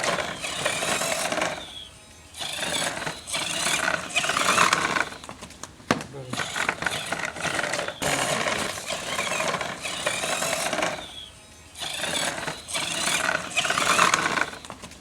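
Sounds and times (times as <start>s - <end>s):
toy tractor motor buzzing: 0.0s - 15.0s.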